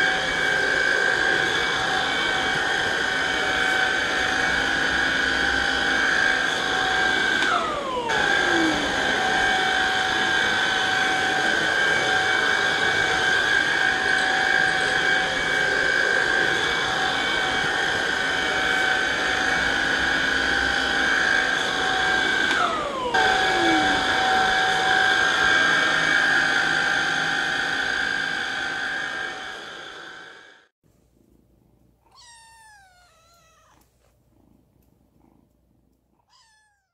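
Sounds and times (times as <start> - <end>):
vacuum cleaner motor whining: 0.0 - 30.7.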